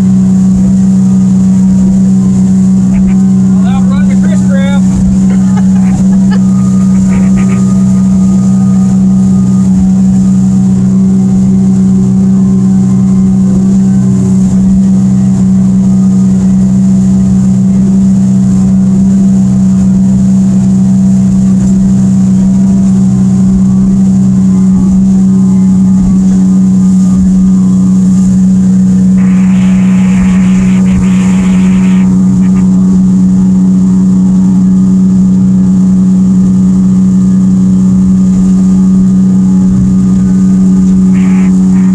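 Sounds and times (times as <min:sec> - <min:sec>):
outboard motor droning: 0:00.0 - 0:41.9
rumble of hull and water: 0:00.0 - 0:41.9.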